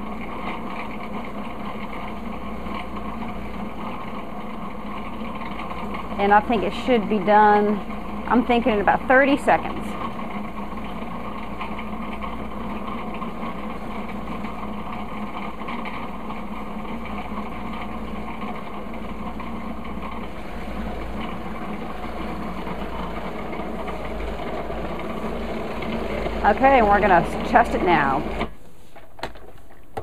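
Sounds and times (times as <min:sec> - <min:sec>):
food processor motor running: 0:00.0 - 0:28.6.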